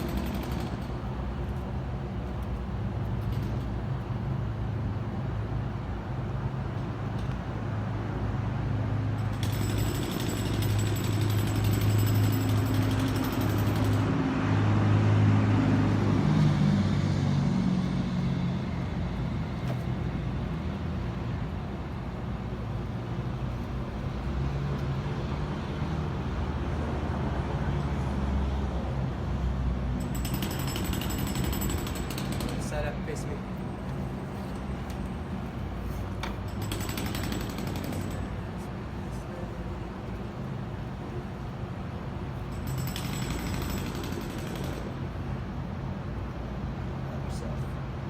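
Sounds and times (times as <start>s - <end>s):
vehicle engines humming: 0.0s - 48.0s.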